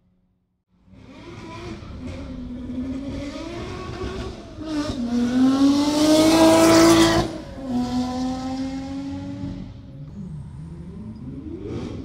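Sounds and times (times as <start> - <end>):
car engine revving: 0.8 - 12.0.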